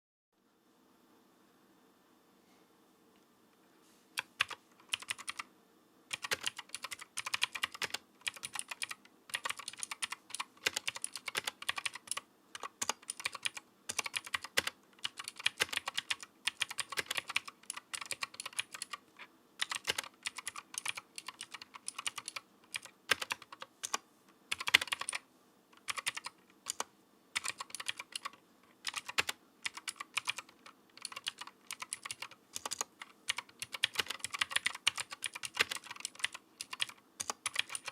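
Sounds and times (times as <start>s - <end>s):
mechanical keyboard typing: 4.2s - 5.5s, 6.1s - 25.2s, 25.8s - 37.9s.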